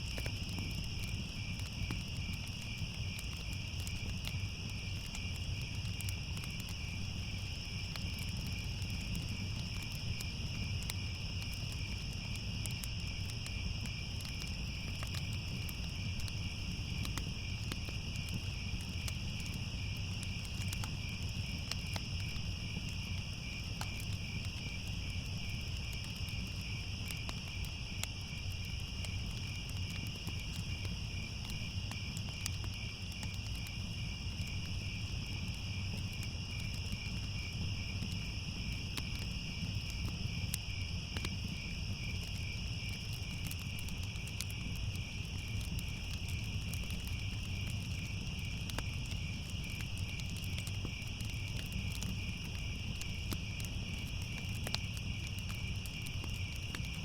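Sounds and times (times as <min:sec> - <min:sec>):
crickets trilling: 0:00.0 - 0:57.0
wood fire crackling: 0:00.0 - 0:57.0.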